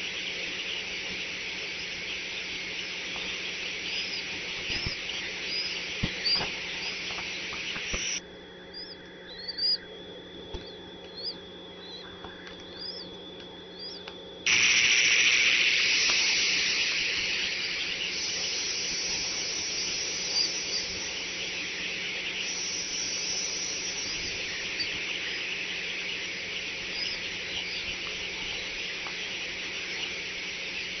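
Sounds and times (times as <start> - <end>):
faint high chirps: 0.0 - 31.0
low steady hum: 0.0 - 31.0
outdoor ambience hiss: 0.0 - 31.0.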